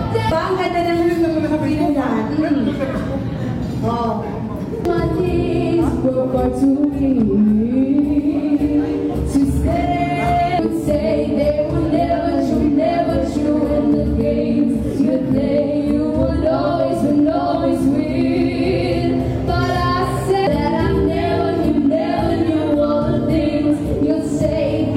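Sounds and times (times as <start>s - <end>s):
pop backing track: 4.6s - 24.9s
woman singing into microphone: 4.8s - 24.9s.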